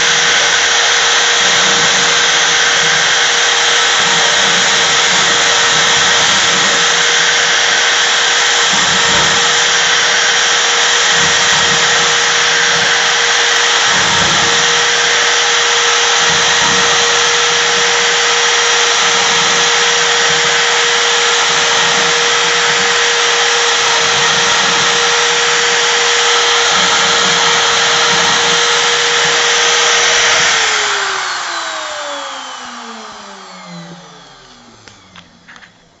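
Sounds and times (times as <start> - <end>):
router spindle whining: 0.0 - 36.0.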